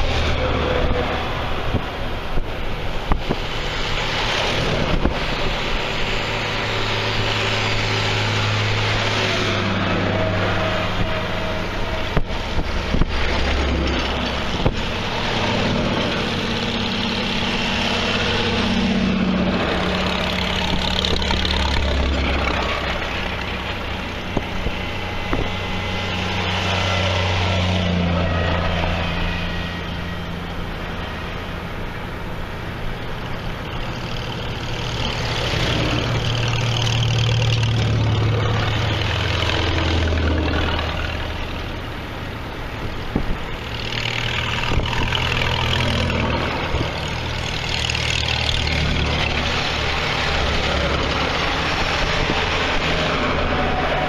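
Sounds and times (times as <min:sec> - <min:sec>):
tractor engines driving past: 0:00.0 - 0:54.0.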